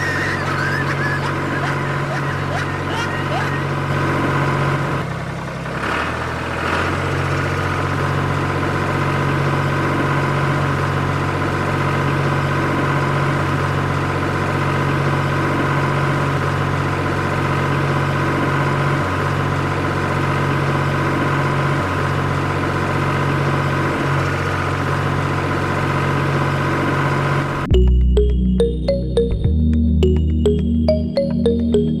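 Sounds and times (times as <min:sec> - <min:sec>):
tractor engine humming: 0:00.0 - 0:32.0.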